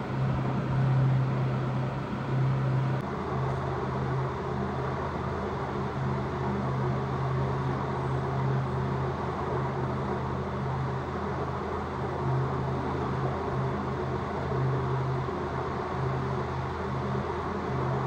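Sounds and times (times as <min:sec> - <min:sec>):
machine hum: 0:00.0 - 0:18.0
rushing whirring noise: 0:00.0 - 0:18.0.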